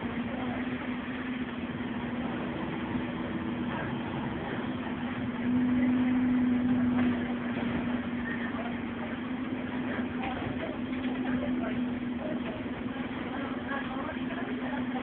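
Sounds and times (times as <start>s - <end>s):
bus diesel engine droning: 0.0s - 15.0s
road noise: 0.0s - 15.0s.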